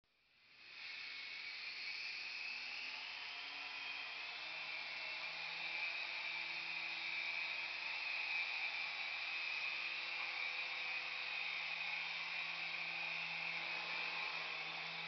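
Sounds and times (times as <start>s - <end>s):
toy helicopter motor whining: 0.6s - 15.0s.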